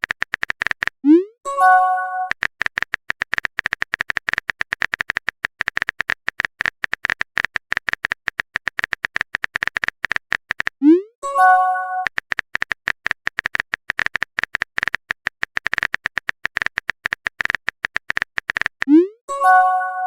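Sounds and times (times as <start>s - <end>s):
rapid uneven clicking: 0.0s - 1.0s, 2.3s - 10.8s, 12.1s - 18.9s.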